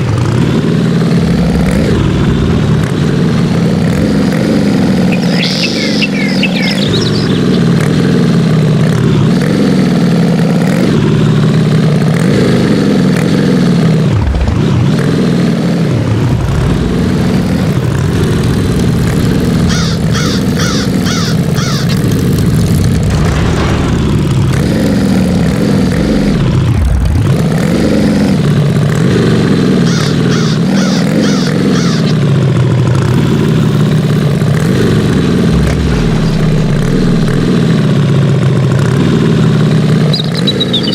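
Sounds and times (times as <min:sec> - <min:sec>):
truck engine revving: 0:00.0 - 0:40.9.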